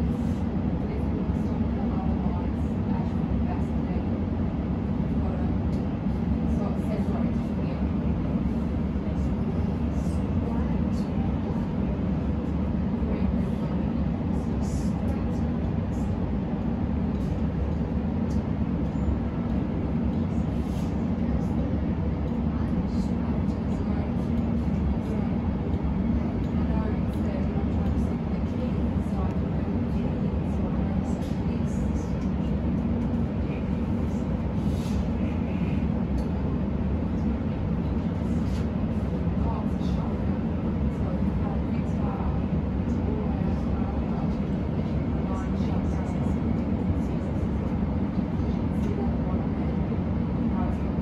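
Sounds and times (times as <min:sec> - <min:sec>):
train rumble inside carriage: 0:00.0 - 0:51.0.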